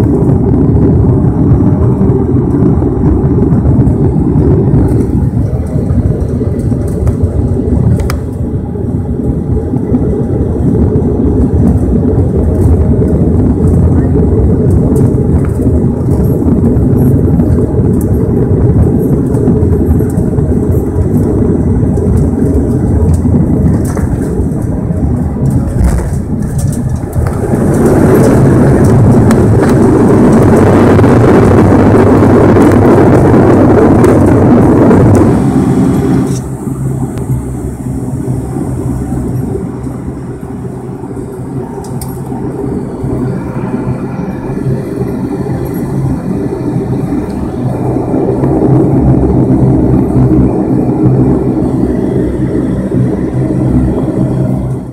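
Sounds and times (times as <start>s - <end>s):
turboprop engines and propellers: 0.0s - 54.9s.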